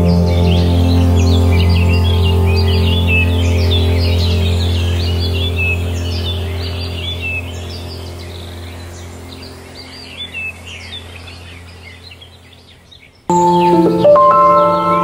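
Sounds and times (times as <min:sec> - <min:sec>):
birds chirping: 0:00.0 - 0:15.0
calm music with sustained tones: 0:00.0 - 0:15.0
low steady drone: 0:00.0 - 0:15.0.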